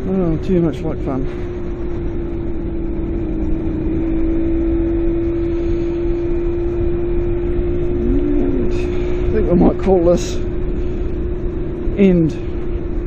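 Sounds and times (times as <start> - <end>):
low wind rumble: 0.0 - 13.0
motorcycle engine cruising: 0.0 - 13.0.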